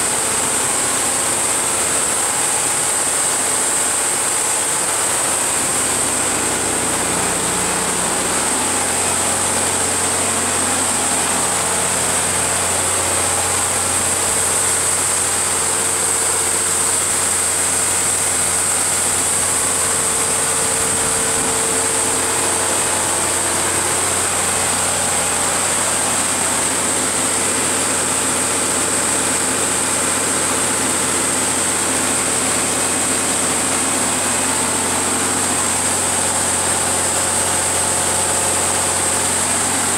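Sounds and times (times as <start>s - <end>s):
generator engine low hum: 0.0s - 39.9s.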